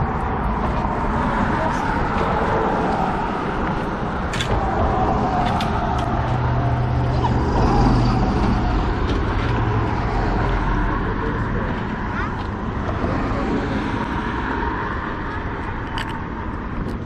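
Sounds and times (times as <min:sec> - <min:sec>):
vehicle passing: 0:00.0 - 0:16.6
road traffic rumble: 0:00.0 - 0:17.0.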